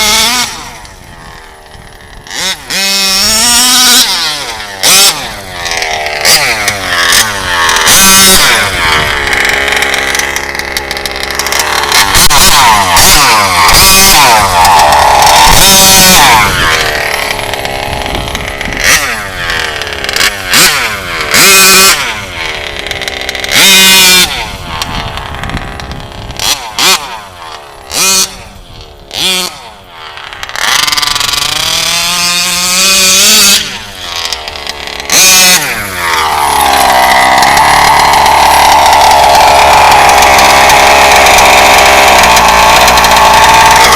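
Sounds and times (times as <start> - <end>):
model truck engine revving: 0.0 - 43.9.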